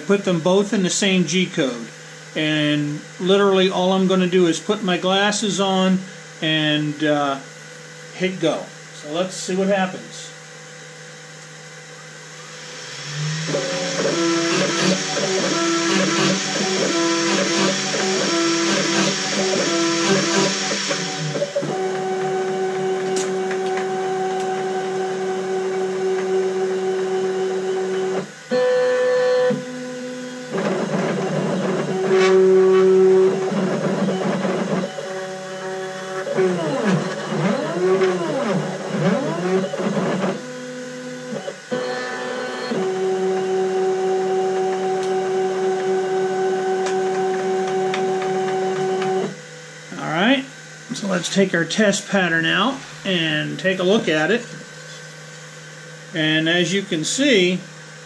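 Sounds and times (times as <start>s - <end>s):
cnc router spindle whining: 0.0s - 58.0s.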